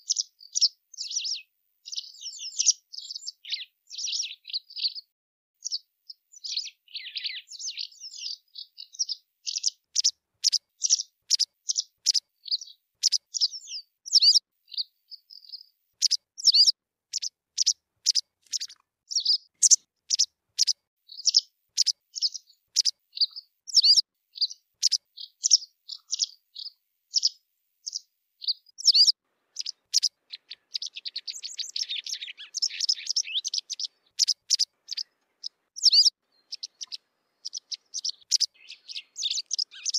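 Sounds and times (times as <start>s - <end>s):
bird chirping: 0.0s - 39.9s
bird twittering: 0.0s - 39.9s.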